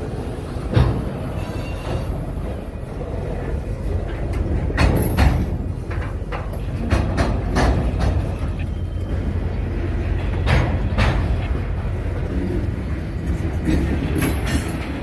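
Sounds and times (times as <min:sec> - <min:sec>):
freight train rumble: 0:00.0 - 0:15.0
sharp clanks of train cars: 0:00.0 - 0:15.0.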